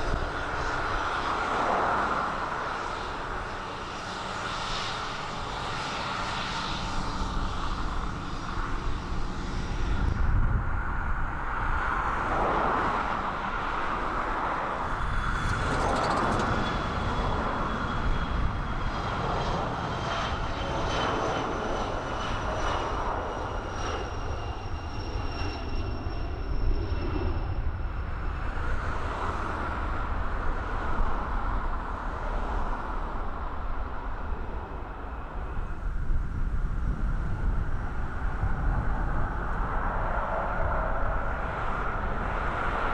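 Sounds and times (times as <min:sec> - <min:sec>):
aircraft engines roaring past: 0:00.0 - 0:42.9.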